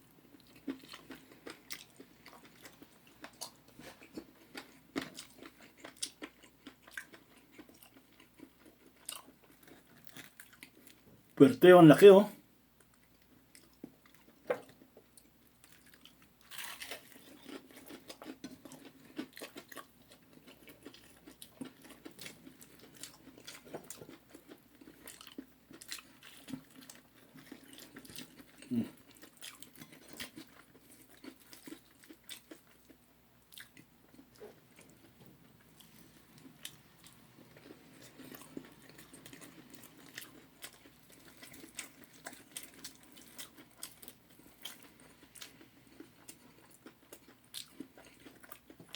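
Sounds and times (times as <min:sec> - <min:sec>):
crunchy chewing of fried chicken: 0:00.0 - 0:12.2, 0:12.8 - 0:48.9.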